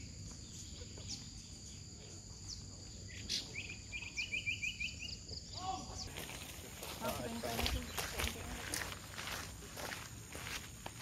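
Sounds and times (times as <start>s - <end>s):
insects calling in high tones: 0.0s - 11.0s.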